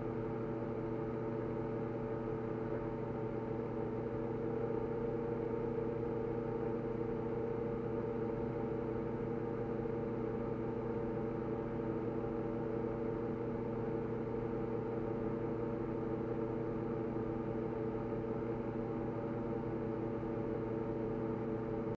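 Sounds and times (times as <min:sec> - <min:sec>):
steady machine hum: 0:00.0 - 0:21.9.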